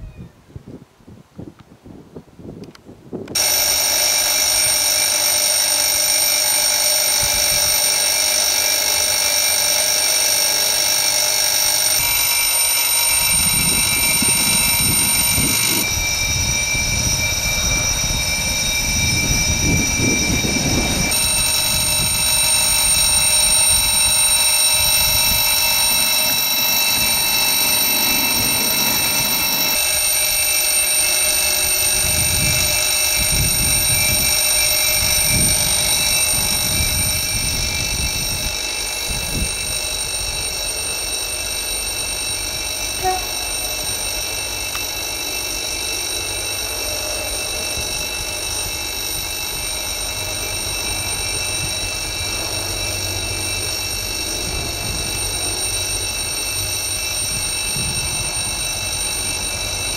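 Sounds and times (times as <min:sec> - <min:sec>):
level crossing warning bell: 0:03.4 - 0:59.9.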